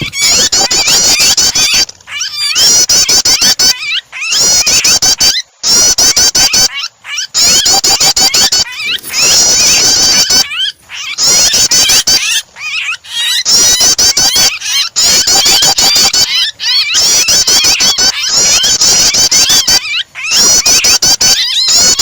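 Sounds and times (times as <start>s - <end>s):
bird calls: 0.0s - 22.0s
bird distress squeals: 0.0s - 22.0s.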